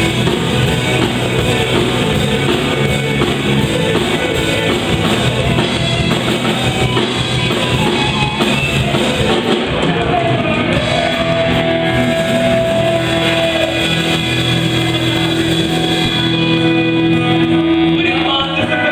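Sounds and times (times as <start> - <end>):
drum kit: 0.0 - 18.9
guitar: 0.0 - 18.9
rock band playing: 0.0 - 18.9.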